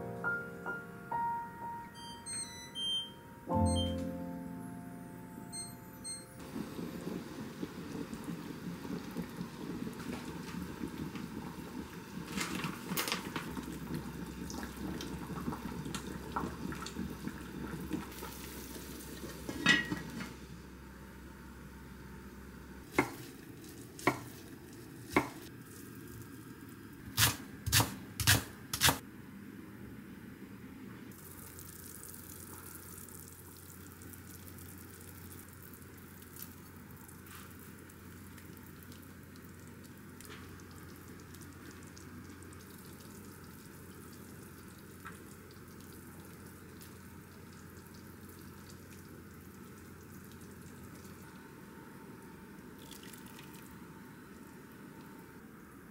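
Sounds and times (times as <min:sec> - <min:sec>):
broth simmering in a pot: 0:06.4 - 0:27.0, 0:31.1 - 0:55.9.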